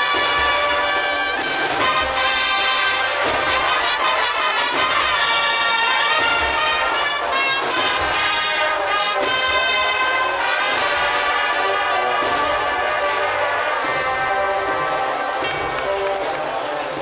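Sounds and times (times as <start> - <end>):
steady drum beat: 0.0 - 15.8
brass band playing a march: 0.0 - 17.0.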